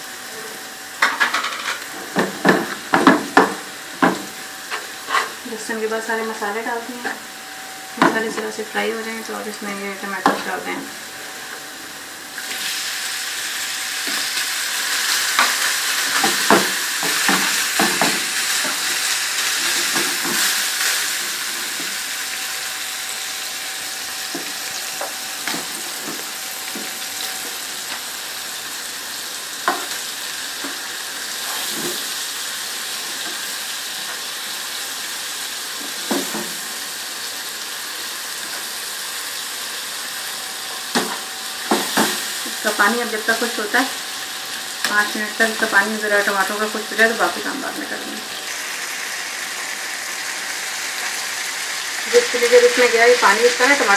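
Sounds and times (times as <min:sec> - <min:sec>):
tomatoes sizzling in hot oil: 0:00.0 - 0:53.9.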